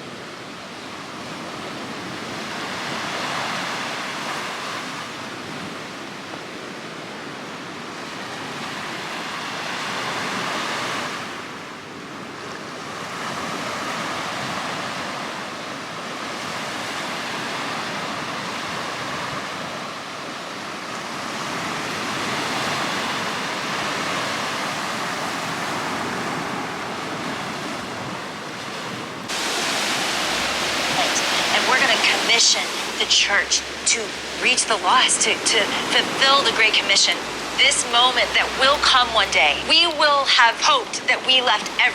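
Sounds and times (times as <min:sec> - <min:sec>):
sea waves washing onto beach: 0:00.0 - 0:41.9.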